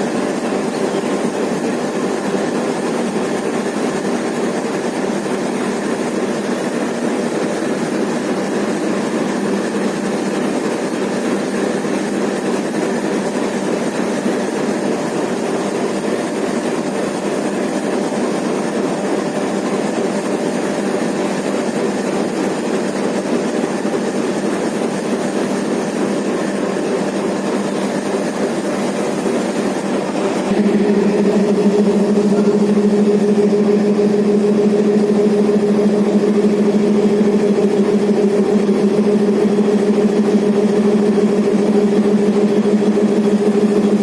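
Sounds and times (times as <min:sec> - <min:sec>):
diesel locomotive engine running: 0:00.0 - 0:44.0.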